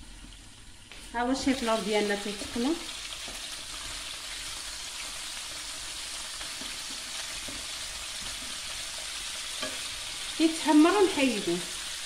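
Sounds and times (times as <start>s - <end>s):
vegetables frying in oil: 0.0s - 12.0s.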